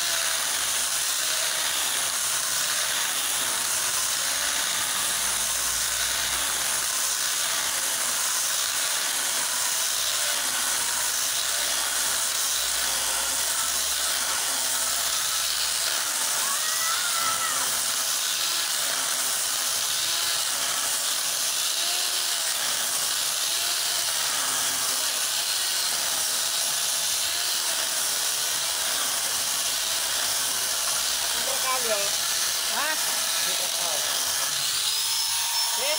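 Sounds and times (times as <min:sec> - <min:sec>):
chainsaw cutting through log: 0:00.0 - 0:35.9.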